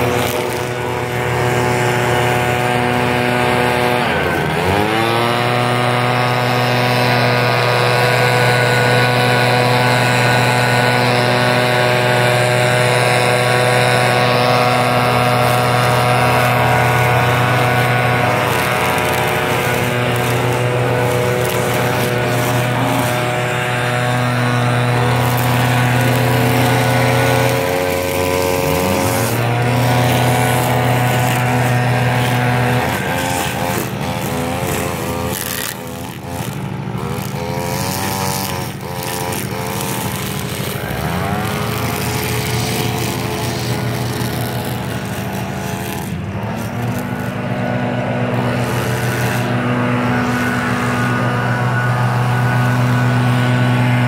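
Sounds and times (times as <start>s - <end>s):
string trimmer engine revving: 0.0s - 54.0s.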